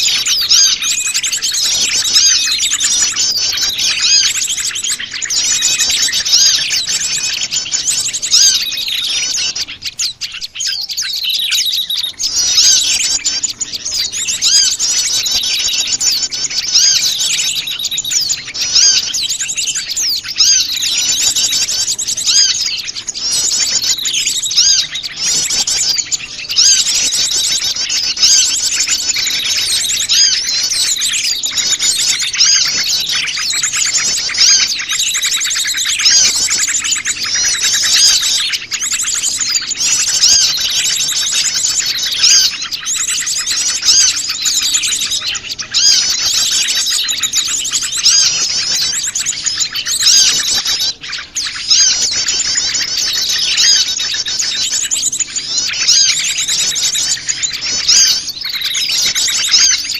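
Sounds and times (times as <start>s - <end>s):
many small birds chirping: 0.0s - 59.9s.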